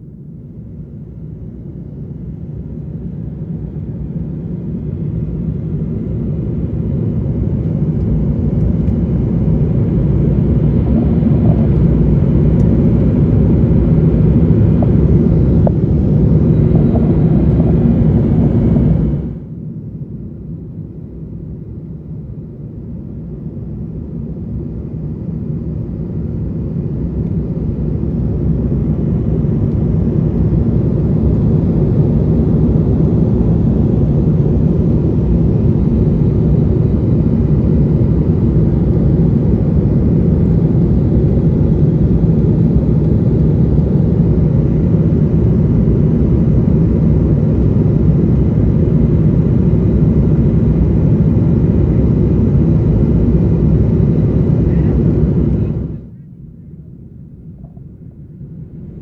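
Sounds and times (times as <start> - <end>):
airliner cabin engine drone: 0.0 - 59.0.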